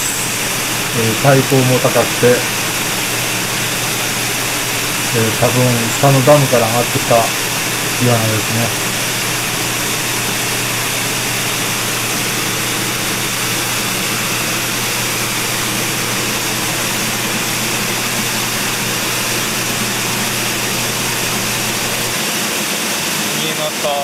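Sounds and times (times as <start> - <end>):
low hum: 0.0 - 22.2
stream water rushing: 0.0 - 22.2.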